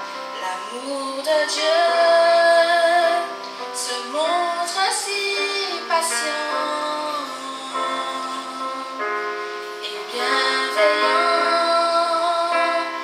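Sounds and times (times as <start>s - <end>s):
electric keyboard: 0.0s - 13.0s
woman singing through microphone: 0.4s - 9.2s, 9.8s - 13.0s.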